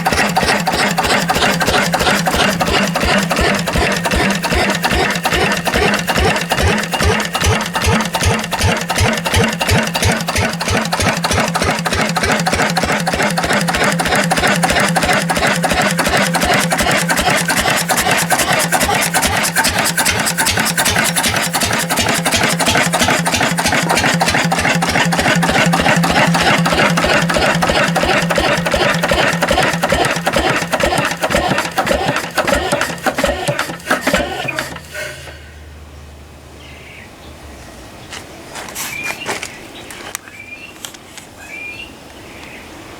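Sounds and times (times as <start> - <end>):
rattly mechanical clatter: 0.0 - 35.5
diesel engine running: 0.0 - 36.6.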